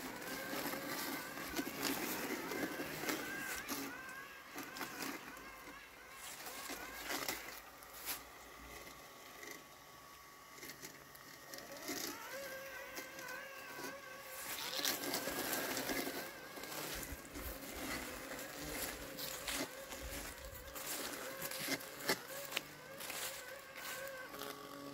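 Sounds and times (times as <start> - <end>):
robotic mower motor whine: 0.0 - 24.9.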